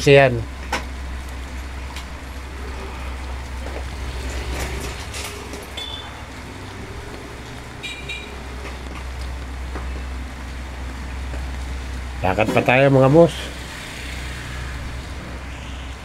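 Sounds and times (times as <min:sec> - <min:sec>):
traffic on wet road: 0:00.5 - 0:16.0.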